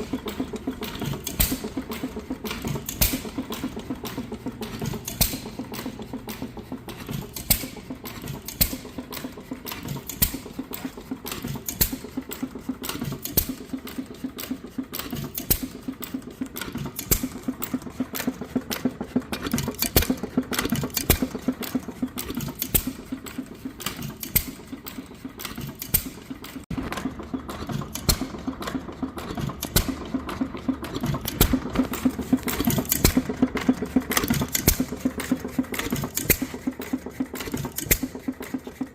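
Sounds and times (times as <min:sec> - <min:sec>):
engine clattering and knocking: 0:00.0 - 0:38.9.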